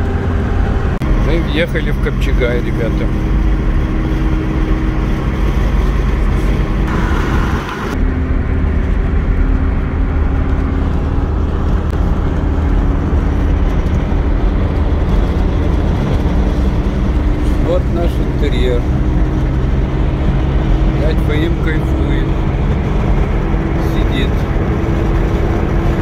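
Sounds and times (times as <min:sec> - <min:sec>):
car engine rumble: 0:00.0 - 0:26.0
road noise: 0:00.0 - 0:26.0.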